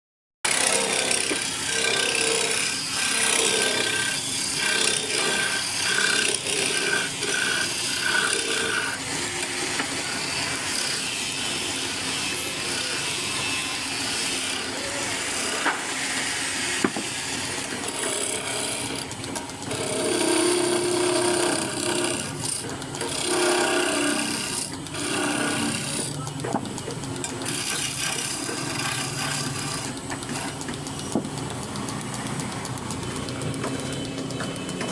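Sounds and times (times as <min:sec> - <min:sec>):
power tools sawing and rasping wood: 0:00.5 - 0:34.9.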